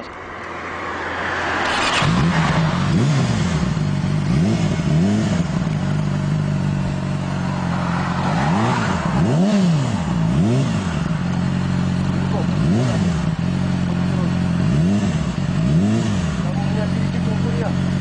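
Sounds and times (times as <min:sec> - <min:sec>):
motorcycle engine revving: 0:01.0 - 0:18.0.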